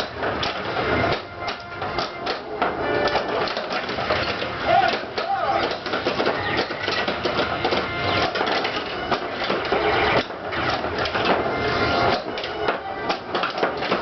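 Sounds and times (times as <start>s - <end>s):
pinball solenoids and flippers clattering: 0.0s - 14.0s.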